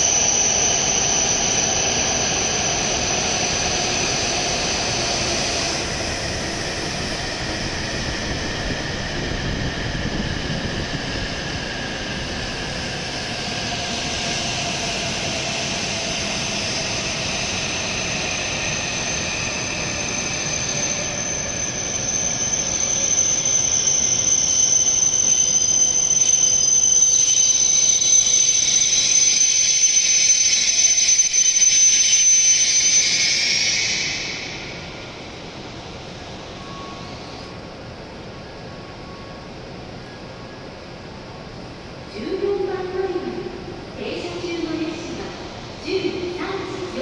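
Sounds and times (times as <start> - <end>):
high brake squeal: 0.0 - 40.6
train whine falling in pitch: 0.0 - 47.0.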